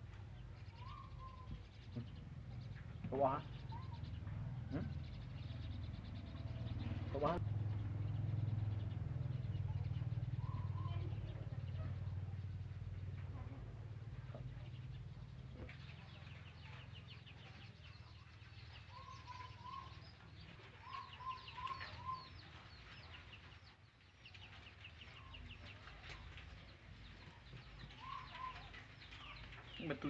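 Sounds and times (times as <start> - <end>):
chickens clucking: 0.1 - 7.4, 8.5 - 30.0.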